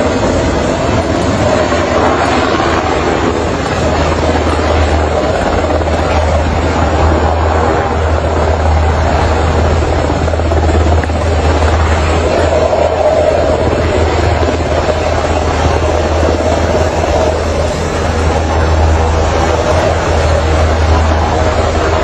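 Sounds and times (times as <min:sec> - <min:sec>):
helicopter running: 0:00.0 - 0:22.0.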